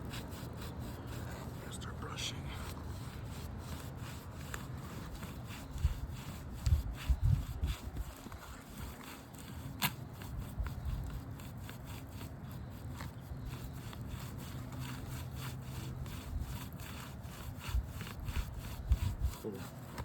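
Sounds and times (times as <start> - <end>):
hand brush sweeping roof shingles: 0.0 - 1.8, 2.6 - 20.0.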